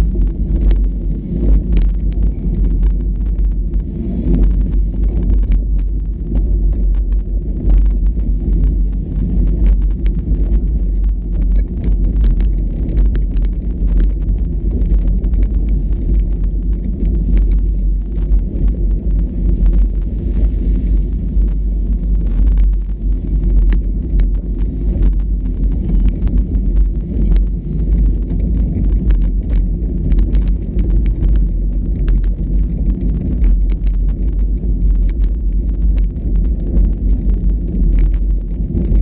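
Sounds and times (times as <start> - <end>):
vehicle engine and drivetrain: 0.0 - 39.0.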